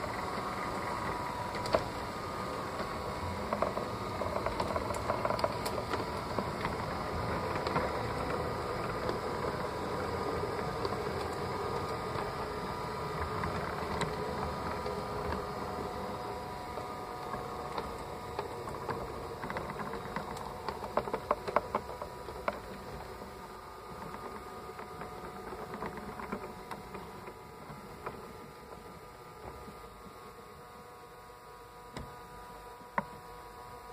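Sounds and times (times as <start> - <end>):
electric motor whirring whine: 0.0 - 33.9.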